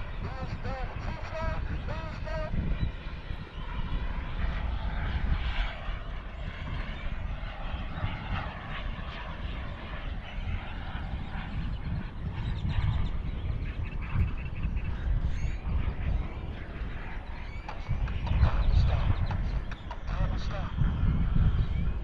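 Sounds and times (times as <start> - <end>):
model jet engine flying overhead: 0.0 - 22.0.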